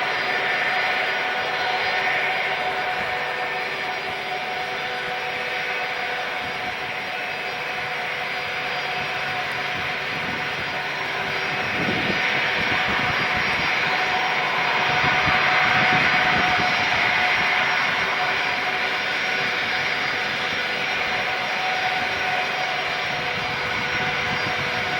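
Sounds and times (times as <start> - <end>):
jet airliner taking off: 0.0 - 24.9.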